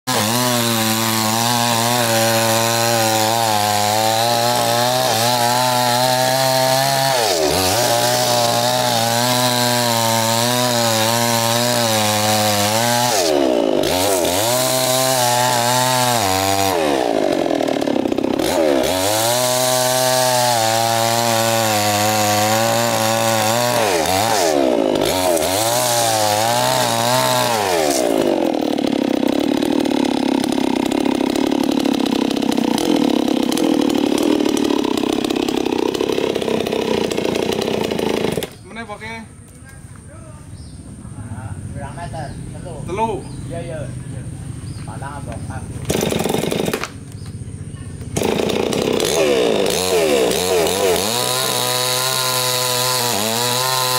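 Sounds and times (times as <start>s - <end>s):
chainsaw cutting wood: 0.0s - 39.1s, 45.0s - 47.4s, 48.0s - 53.9s.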